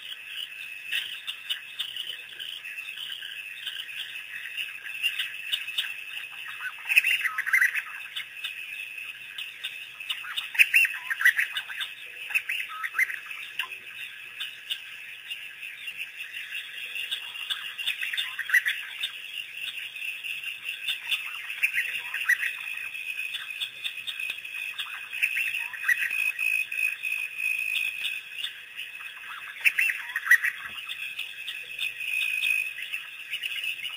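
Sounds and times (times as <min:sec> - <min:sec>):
wild dogs chirping: 0:00.0 - 0:33.9.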